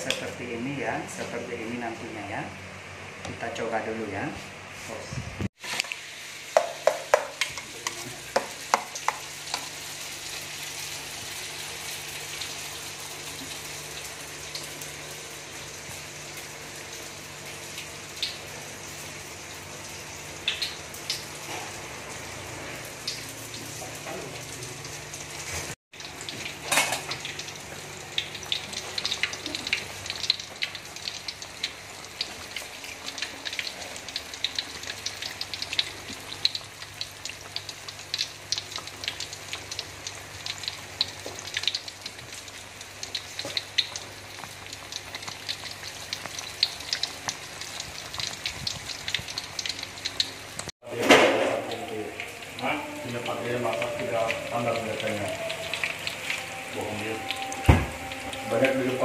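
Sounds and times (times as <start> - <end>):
fritters frying in hot oil: 4.8 - 59.0.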